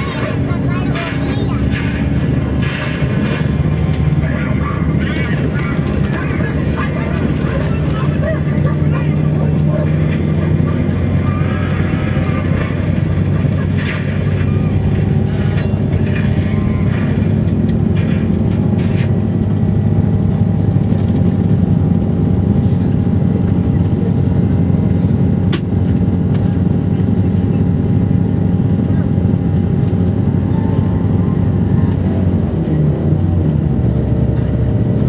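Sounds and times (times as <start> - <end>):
vehicle engine and tyres droning: 0.0 - 35.0.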